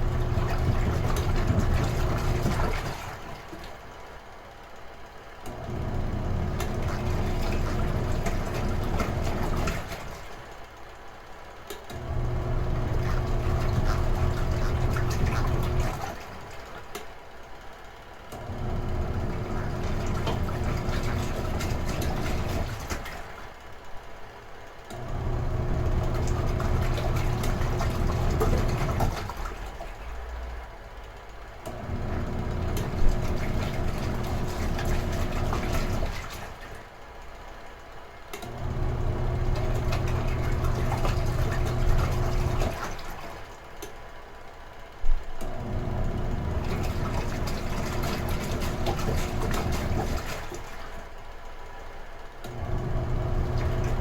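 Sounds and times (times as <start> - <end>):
water swishing in tub: 0.0 - 4.0, 5.5 - 10.6, 12.0 - 17.1, 18.4 - 23.6, 25.0 - 37.0, 38.4 - 43.9, 45.4 - 51.4, 52.4 - 54.0
washing machine motor humming: 0.0 - 54.0.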